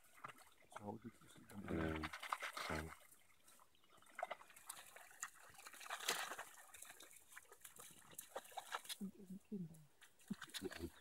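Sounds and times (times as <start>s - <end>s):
dogs lapping water: 0.0s - 9.1s, 10.1s - 11.0s.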